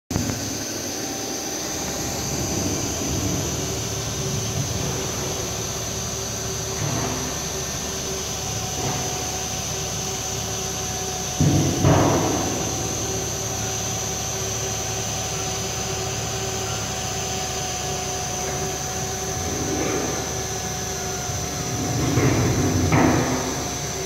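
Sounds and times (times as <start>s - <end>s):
printer machine hum and whine: 0.1s - 24.0s.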